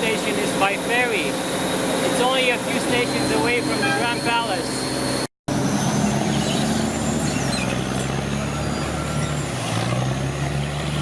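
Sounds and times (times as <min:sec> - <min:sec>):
heavy engine humming: 0:00.0 - 0:11.0
noisy wash: 0:00.0 - 0:11.0.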